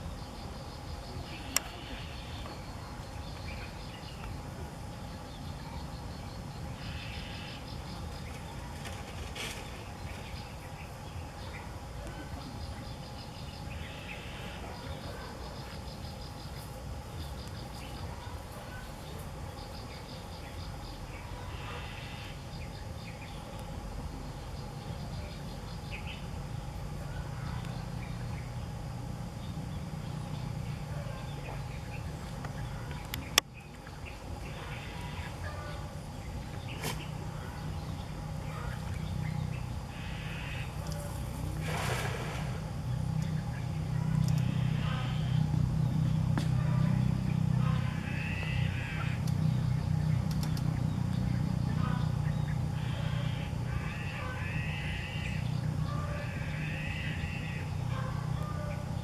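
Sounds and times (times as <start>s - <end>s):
faint insect-like chirping: 0.0s - 58.7s
steady low rumble: 0.0s - 59.0s.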